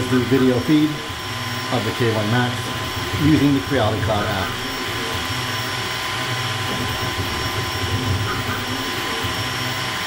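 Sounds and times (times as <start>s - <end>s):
printer fans whirring: 0.0s - 10.0s
printer motors humming: 0.0s - 10.0s.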